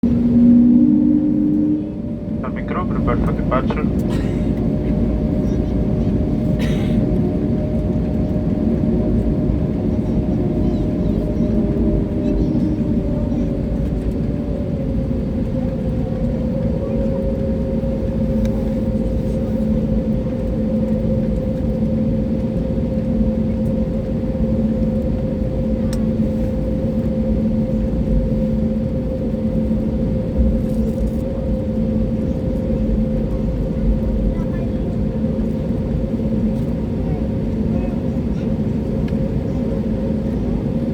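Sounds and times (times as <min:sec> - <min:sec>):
airplane cabin rumble: 0:00.0 - 0:40.9
steady cabin hums: 0:00.0 - 0:40.9.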